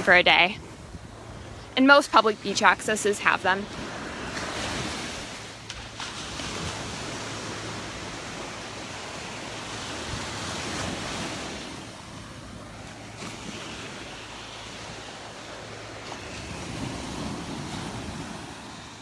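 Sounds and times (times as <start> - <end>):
surf washing onto beach: 0.0 - 19.0.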